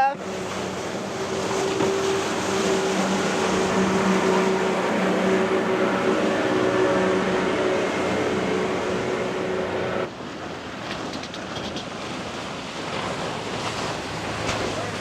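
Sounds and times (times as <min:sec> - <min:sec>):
motorboat engine humming: 0:00.0 - 0:15.0
waves washing: 0:00.0 - 0:15.0
wind: 0:00.0 - 0:15.0.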